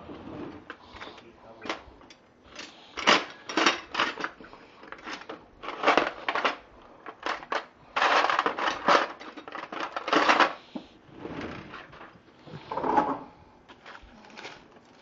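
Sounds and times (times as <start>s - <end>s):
objects crunching and scraping: 0.0s - 15.0s.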